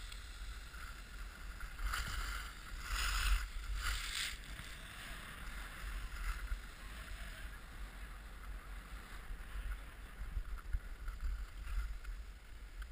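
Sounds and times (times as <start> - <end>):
skis sliding over snow: 0.0 - 12.9
wind rumbling on microphone: 0.0 - 12.9.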